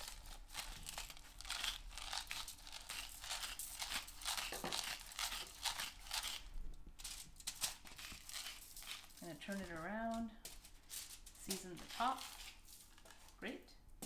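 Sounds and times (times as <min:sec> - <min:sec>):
salt grains pattering: 0:00.0 - 0:13.4
salt shaker rattling: 0:00.0 - 0:13.4.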